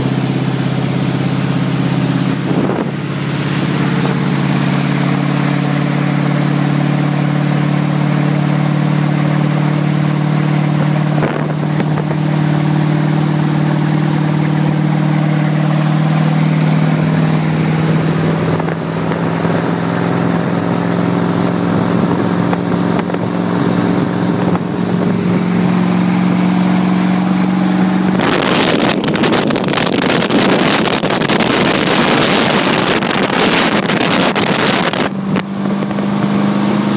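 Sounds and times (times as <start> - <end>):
boat engine running: 0.0 - 36.9
rushing wind and water: 0.0 - 36.9.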